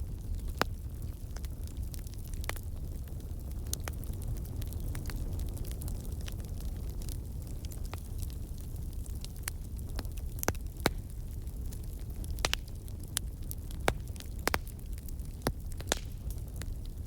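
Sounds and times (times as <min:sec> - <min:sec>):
fire pops and snaps: 0:00.0 - 0:17.0
low rumble of flames: 0:00.0 - 0:17.0.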